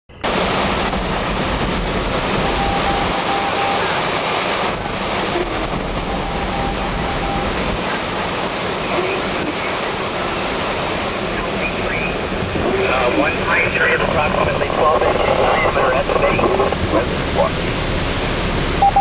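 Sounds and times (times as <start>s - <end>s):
strong wind rushing: 0.2s - 19.0s.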